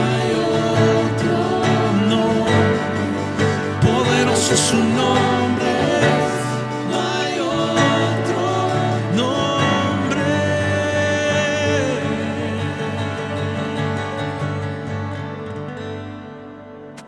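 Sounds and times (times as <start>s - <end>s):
voices singing worship music: 0.0s - 14.5s
acoustic guitar: 0.0s - 17.0s
keyboard: 0.0s - 17.0s.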